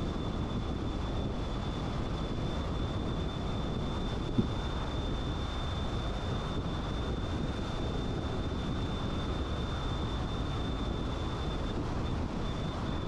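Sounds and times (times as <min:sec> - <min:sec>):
tyre and wind road noise: 0:00.0 - 0:13.0.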